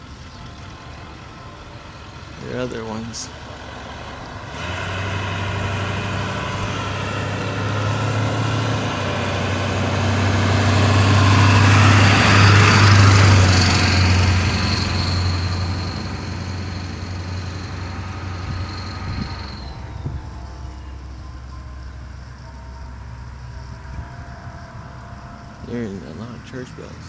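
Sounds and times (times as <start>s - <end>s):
large vehicle passing: 0.0s - 27.0s.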